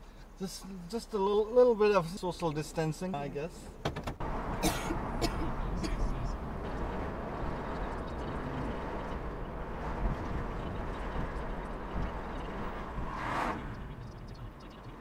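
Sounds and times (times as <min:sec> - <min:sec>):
low cabin noise in a van: 0:00.0 - 0:15.0.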